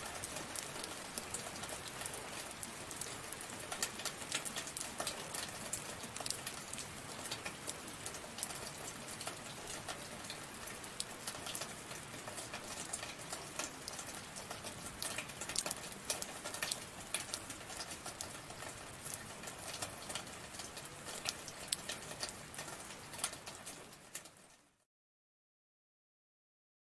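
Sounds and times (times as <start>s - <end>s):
raindrops pattering: 0.0s - 24.8s
steady rain: 0.0s - 24.9s.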